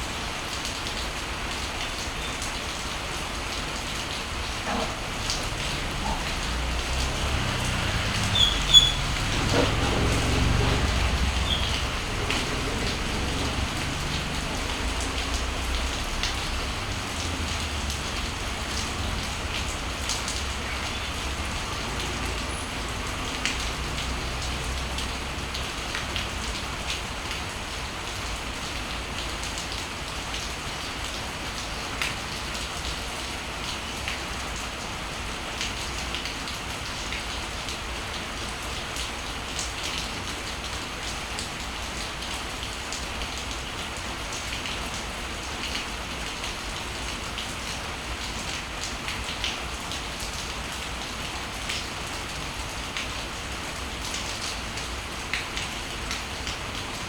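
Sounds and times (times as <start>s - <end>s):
raindrops striking close by: 0.0s - 57.0s
steady rain: 0.0s - 57.0s.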